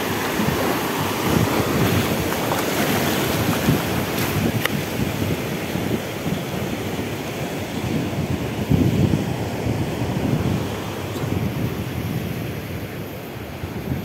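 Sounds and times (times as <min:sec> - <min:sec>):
sea surf washing on shore: 0:00.0 - 0:14.0
wind buffeting microphone: 0:00.0 - 0:14.0.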